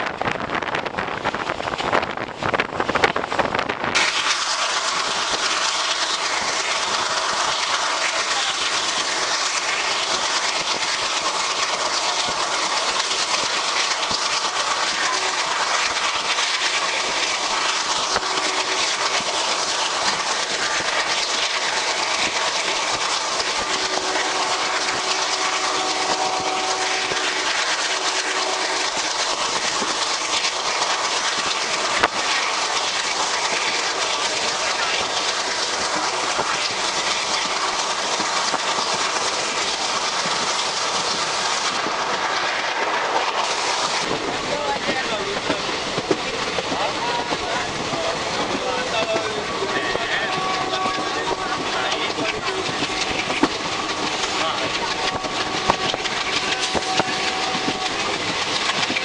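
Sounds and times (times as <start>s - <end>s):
wind buffeting microphone: 0.0s - 7.7s, 8.4s - 59.0s
train running on track: 0.0s - 59.0s.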